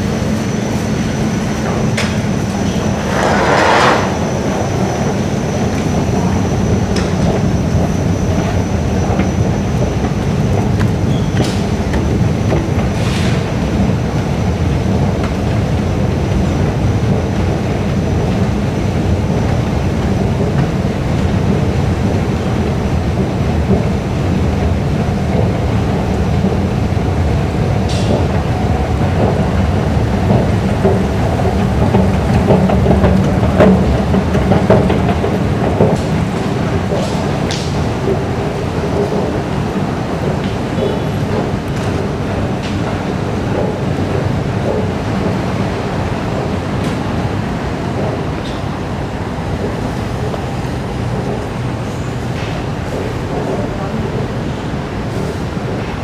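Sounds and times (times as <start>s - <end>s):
train rumbling through tunnel: 0.0s - 56.0s.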